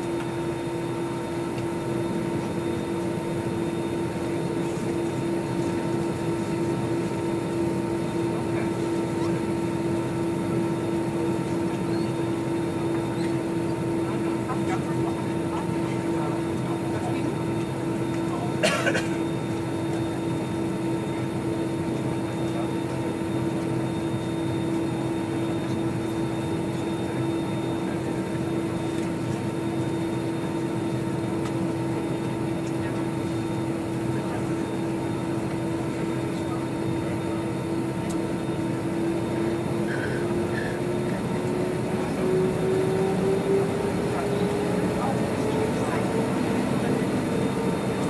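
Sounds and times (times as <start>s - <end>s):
jet engines whining: 0.0s - 48.0s.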